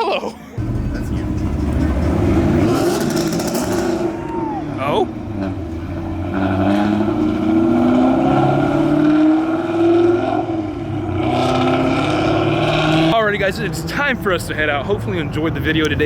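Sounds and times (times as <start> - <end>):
car engine accelerating: 0.6 - 16.0.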